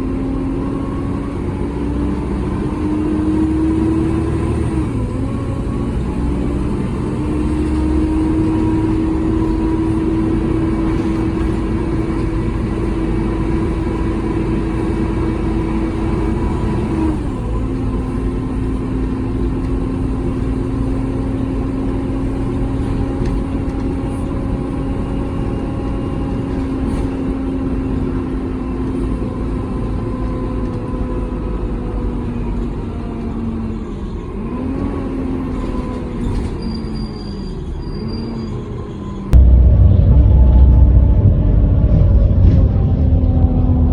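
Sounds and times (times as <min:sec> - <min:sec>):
bus engine and gearbox whine: 0:00.0 - 0:43.9.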